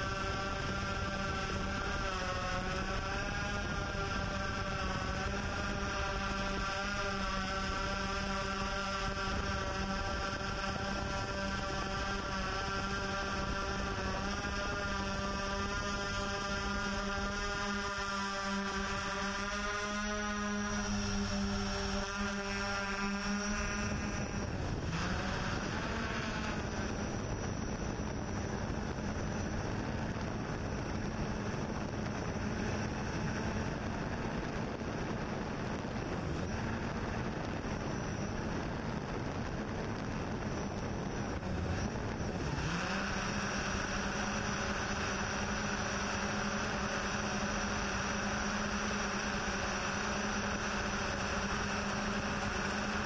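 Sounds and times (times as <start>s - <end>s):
drone rotors humming: 0.0s - 53.0s
wind noise: 0.0s - 53.0s.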